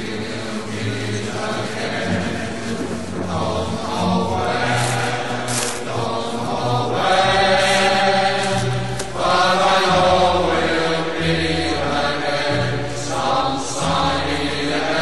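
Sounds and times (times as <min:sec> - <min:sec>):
choir-like slow chanting voices: 0:00.0 - 0:15.0.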